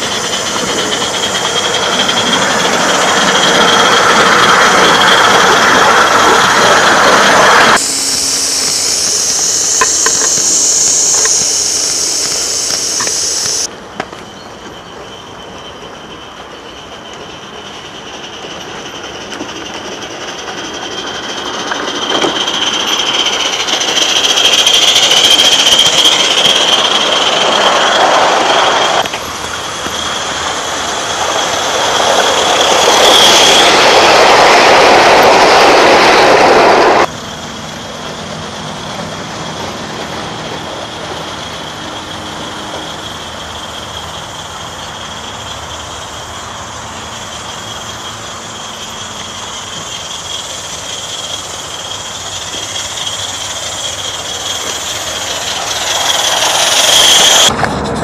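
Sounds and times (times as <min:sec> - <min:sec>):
steady high tone: 0:00.0 - 0:13.7, 0:15.1 - 0:58.0
steam locomotive running: 0:00.0 - 0:58.0.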